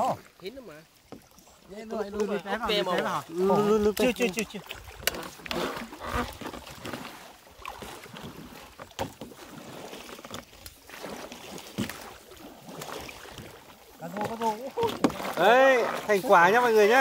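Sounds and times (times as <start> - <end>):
paddle strokes in water: 0.0 - 17.0
water splashing and lapping: 0.0 - 17.0.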